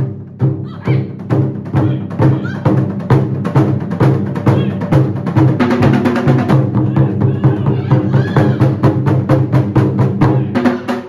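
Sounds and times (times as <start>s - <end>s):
large drums beating: 0.0s - 11.0s.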